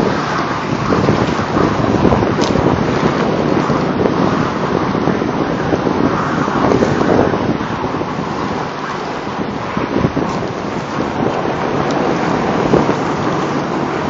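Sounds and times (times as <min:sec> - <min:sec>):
truck engine running under load: 0:00.0 - 0:14.0
wind buffeting microphone: 0:00.0 - 0:14.0.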